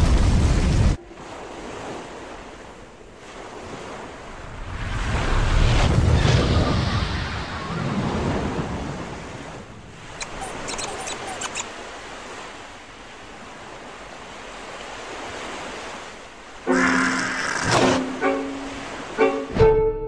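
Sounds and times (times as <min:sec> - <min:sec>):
ocean surf washing on shore: 0:00.0 - 0:19.7.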